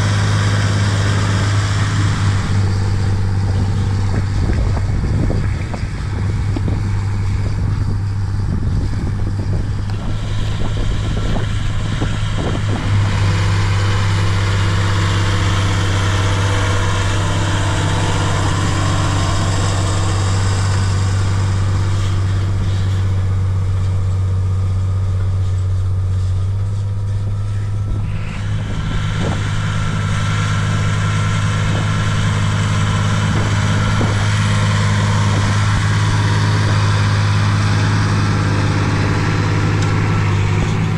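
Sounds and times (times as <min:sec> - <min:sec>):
tractor diesel engine hum: 0:00.0 - 0:40.9.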